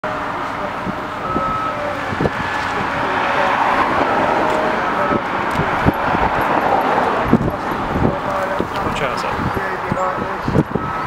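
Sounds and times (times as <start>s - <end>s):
road traffic rushing past: 0.0s - 11.0s.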